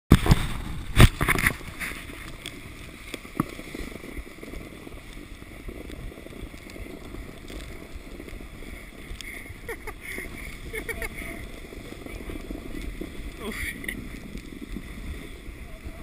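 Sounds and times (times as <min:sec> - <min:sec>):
plastic sledge sliding on snow: 0:00.1 - 0:16.0.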